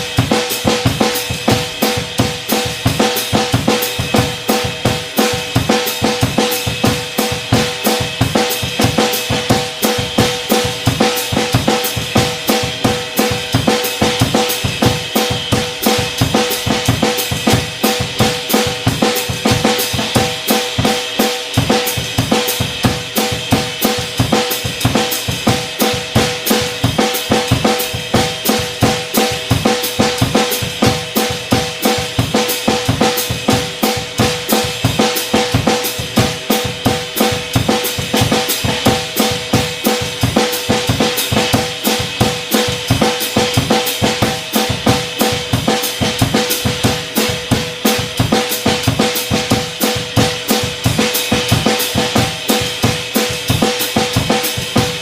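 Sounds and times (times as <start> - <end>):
drum kit samba groove: 0.0 - 55.0.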